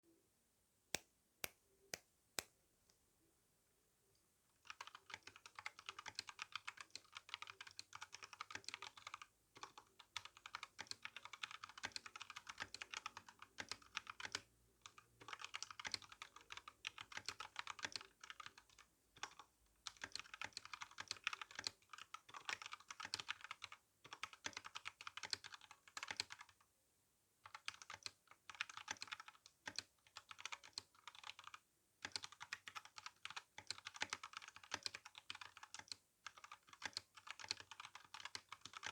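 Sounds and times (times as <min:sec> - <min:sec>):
mechanical keyboard typing: 0:04.7 - 0:26.6, 0:27.5 - 0:38.9.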